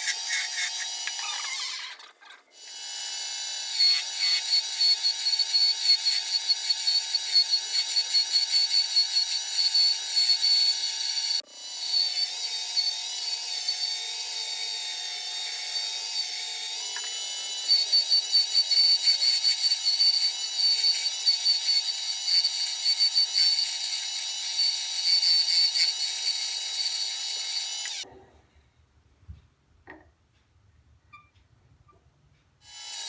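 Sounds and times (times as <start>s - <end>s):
wood lathe turning tool cutting: 0.0s - 2.0s, 2.6s - 28.0s.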